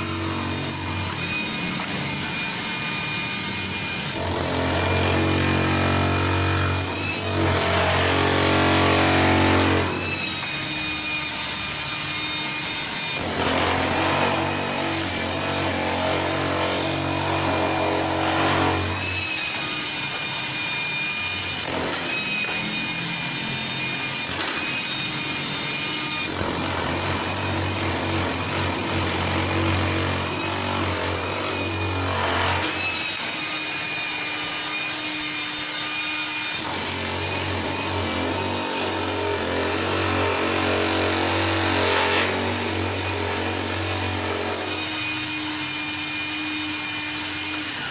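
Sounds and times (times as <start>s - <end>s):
demolition hammer chiseling concrete: 0.0s - 47.9s.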